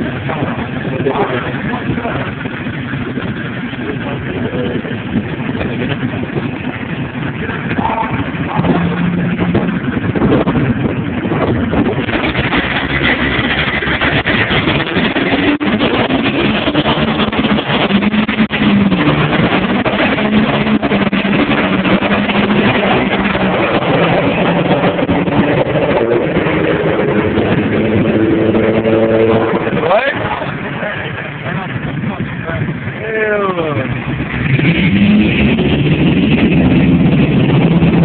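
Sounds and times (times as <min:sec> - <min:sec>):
diesel truck engines accelerating: 0:00.0 - 0:38.0.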